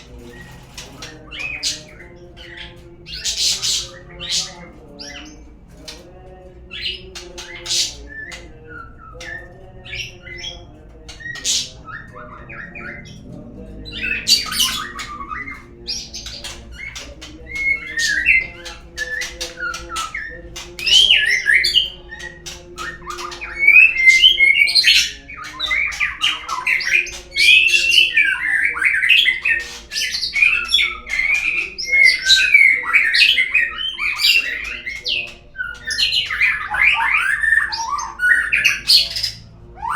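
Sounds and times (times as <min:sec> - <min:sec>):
songbird chirping and warbling: 0:00.0 - 0:39.9.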